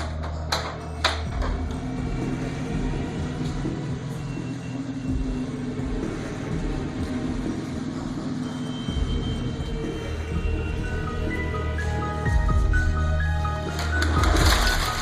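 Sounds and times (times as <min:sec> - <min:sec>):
engine uneven low rumble: 0:00.0 - 0:15.0.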